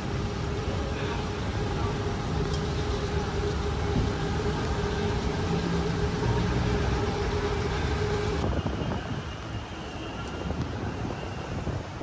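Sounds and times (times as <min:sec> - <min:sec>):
city traffic rumble: 0:00.0 - 0:12.0
quiet outdoor ambience: 0:00.0 - 0:12.0.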